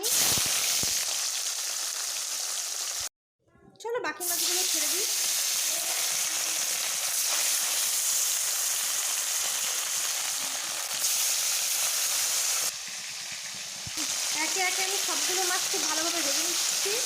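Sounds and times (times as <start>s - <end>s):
fish frying in oil: 0.0s - 3.1s, 4.2s - 17.0s.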